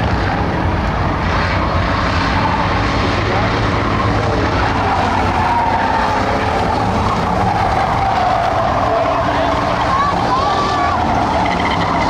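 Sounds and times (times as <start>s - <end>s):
stock car engines racing: 0.0s - 12.0s.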